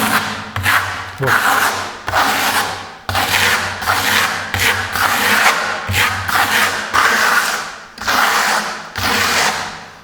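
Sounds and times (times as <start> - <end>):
trowel scraping wet plaster: 0.0 - 9.8.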